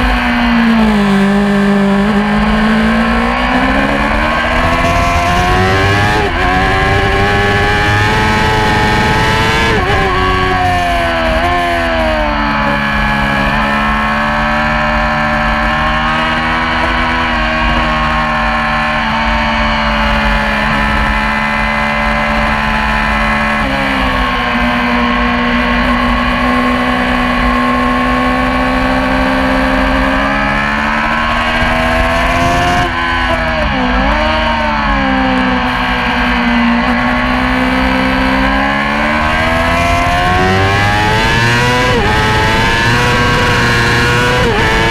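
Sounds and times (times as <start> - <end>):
motorcycle engine at high revs: 0.0 - 44.9.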